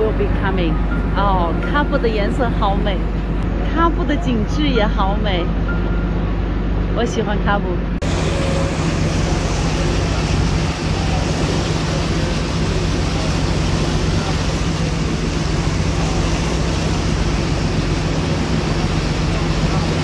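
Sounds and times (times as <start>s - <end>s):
boat engine droning: 0.0s - 20.0s
rushing water: 0.0s - 20.0s
wind: 0.0s - 20.0s.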